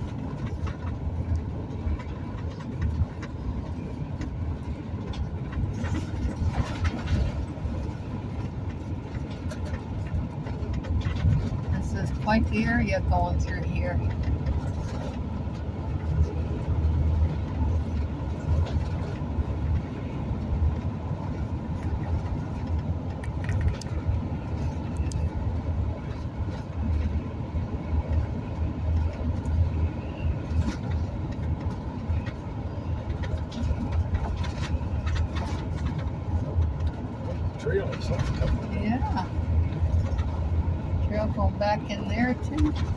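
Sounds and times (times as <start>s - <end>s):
engine and tyre rumble: 0.0s - 42.9s
small rattles and knocks: 0.0s - 42.9s.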